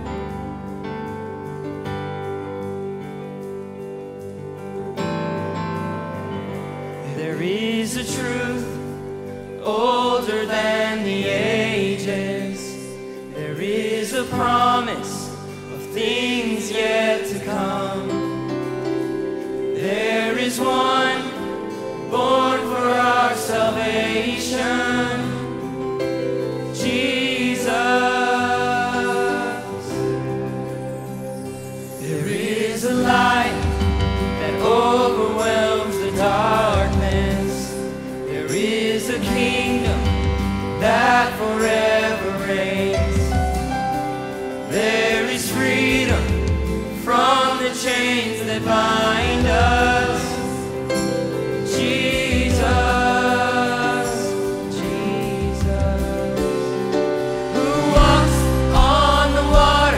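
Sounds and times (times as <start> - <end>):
band playing slow worship song: 0.0 - 59.9
person singing: 7.0 - 30.5, 31.9 - 59.9.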